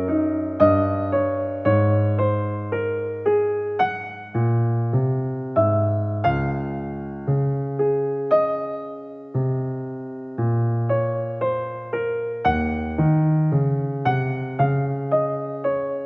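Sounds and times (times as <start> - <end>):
gentle piano-like keyboard music: 0.0 - 16.0.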